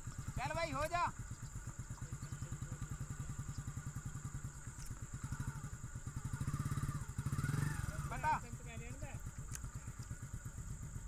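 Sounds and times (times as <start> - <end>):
motorcycle engine puttering: 0.0 - 11.0.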